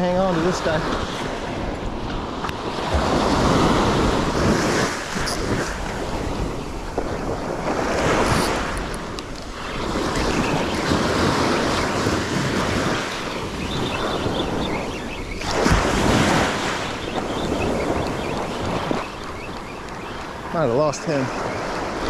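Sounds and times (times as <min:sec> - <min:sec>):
surf breaking on beach: 0:00.0 - 0:22.0
wind buffeting microphone: 0:00.0 - 0:22.0.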